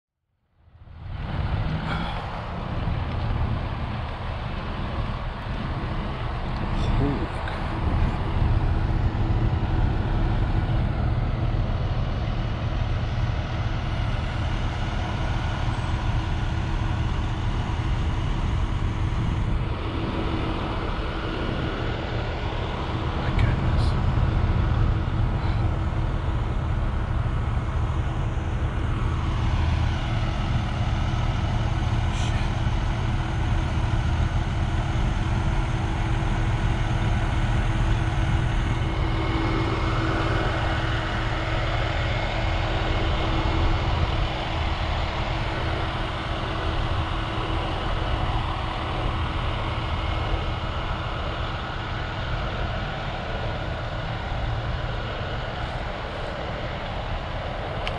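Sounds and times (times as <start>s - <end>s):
constant low hum: 0.4s - 57.9s
vehicle engines idling: 0.8s - 57.9s.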